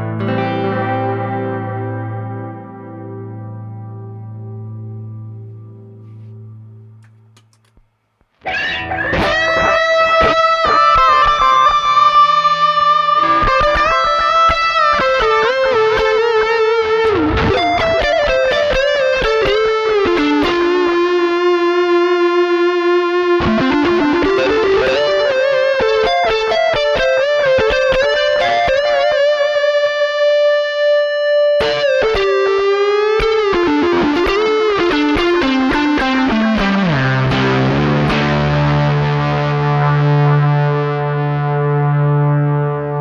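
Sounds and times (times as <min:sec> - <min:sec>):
electric guitar notes with echoes: 0:00.0 - 0:07.0, 0:08.4 - 0:43.0.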